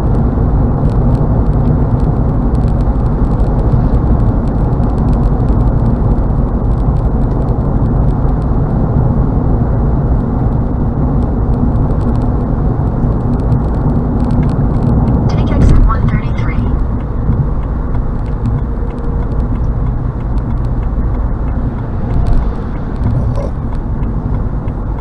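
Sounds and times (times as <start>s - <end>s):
car cabin road noise: 0.0s - 25.0s.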